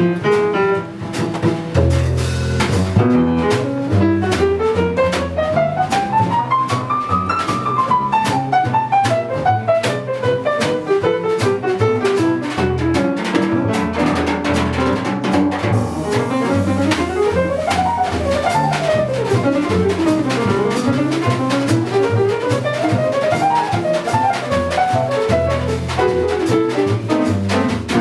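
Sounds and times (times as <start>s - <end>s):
double bass: 0.0s - 28.0s
drum kit: 0.0s - 28.0s
piano: 0.0s - 28.0s.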